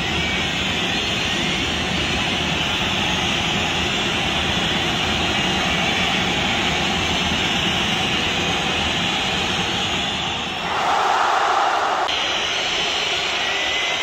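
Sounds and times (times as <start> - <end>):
stadium crowd roaring: 0.0 - 14.0.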